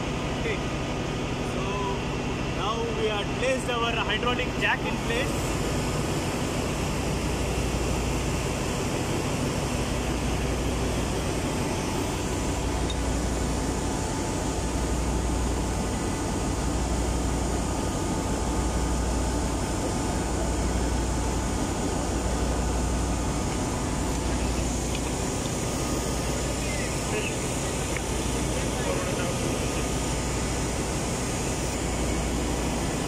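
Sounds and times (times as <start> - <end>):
engine room machinery rush: 0.0 - 33.0
low machinery hum: 0.0 - 33.0.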